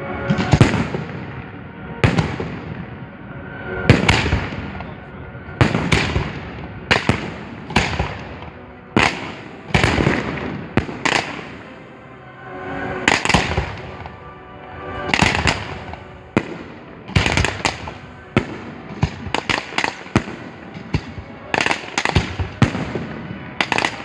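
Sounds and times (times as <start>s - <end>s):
fireworks bangs: 0.2s - 3.2s, 3.8s - 12.0s, 12.7s - 14.3s, 14.9s - 24.0s.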